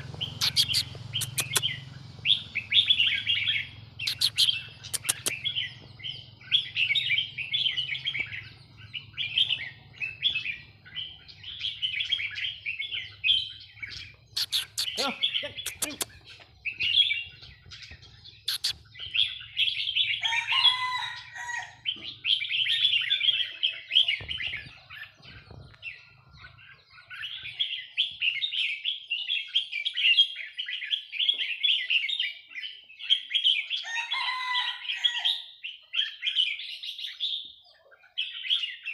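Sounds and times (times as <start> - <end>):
birds chirping and warbling: 0.0 - 38.9.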